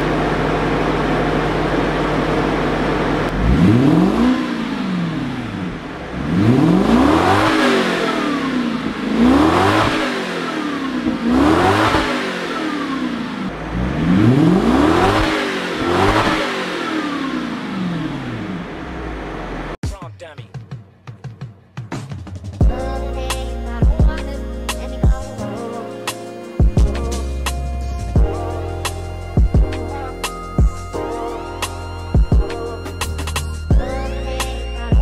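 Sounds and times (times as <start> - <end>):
car engine idling and revving: 0.0 - 19.8, 22.5 - 35.0.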